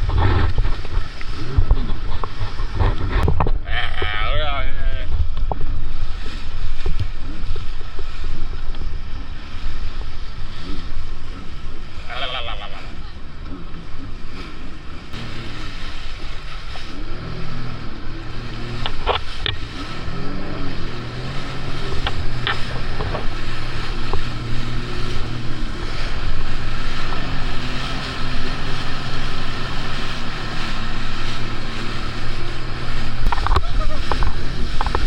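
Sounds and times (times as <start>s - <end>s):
jet ski engine running: 0.0s - 35.0s.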